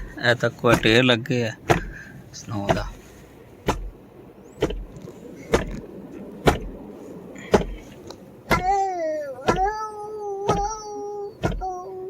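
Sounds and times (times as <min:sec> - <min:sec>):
road noise inside car: 0:00.0 - 0:12.0
windshield wipers thumping: 0:00.0 - 0:12.0.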